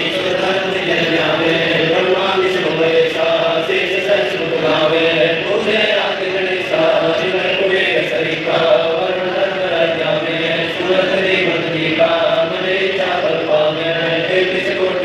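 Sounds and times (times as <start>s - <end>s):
men chanting over loudspeakers: 0.0s - 15.0s.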